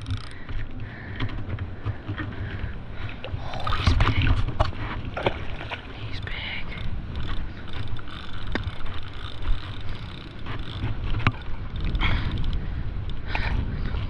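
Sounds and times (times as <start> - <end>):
fishing gear knocks and clicks: 0.0 - 14.0
wind buffeting microphone: 0.0 - 14.0.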